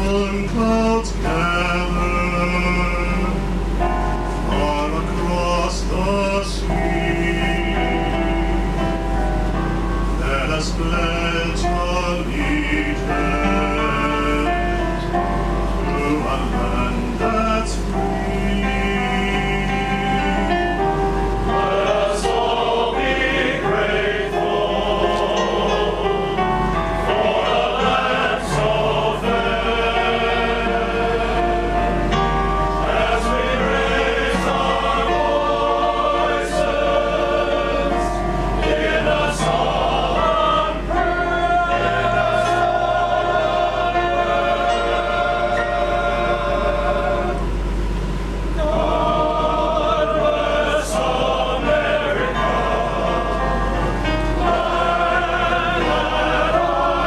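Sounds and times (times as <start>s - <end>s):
male chorus singing: 0.0s - 3.8s, 4.4s - 9.0s, 10.1s - 47.6s, 48.5s - 57.0s
low hum: 0.0s - 57.0s.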